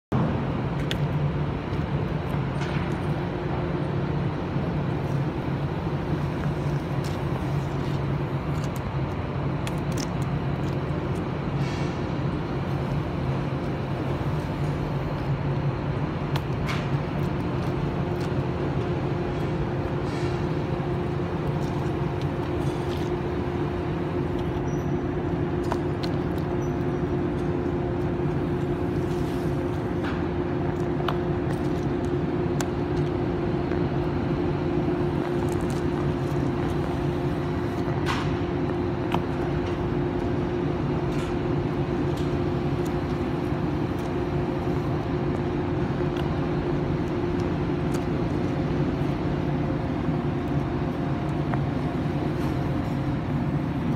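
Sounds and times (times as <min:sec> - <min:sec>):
engine droning steadily: 0:00.1 - 0:53.9.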